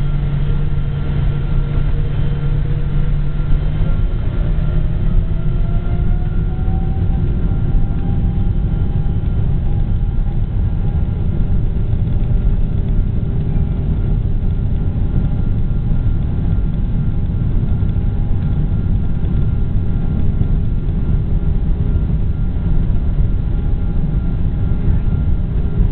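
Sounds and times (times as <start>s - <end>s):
jet engine rumble: 0.0s - 25.9s
whining engine tones: 0.0s - 25.9s.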